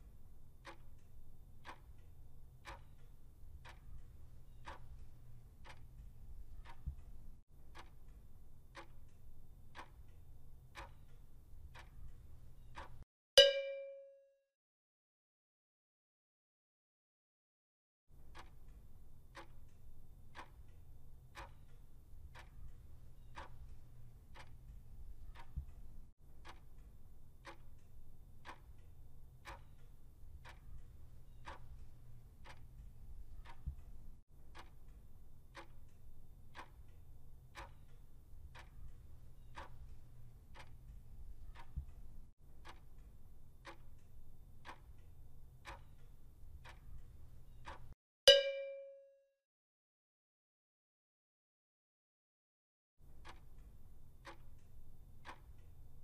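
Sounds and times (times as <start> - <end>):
clock ticking: 0.3 - 14.1, 18.2 - 48.9, 53.0 - 56.0.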